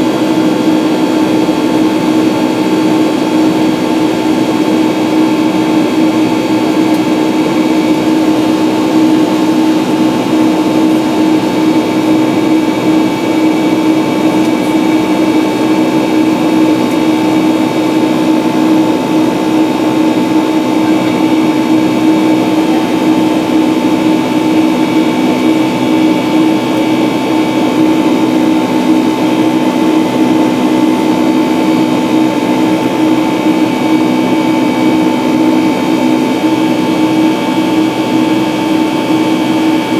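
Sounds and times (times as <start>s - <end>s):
jet engine cabin rush: 0.0s - 39.9s.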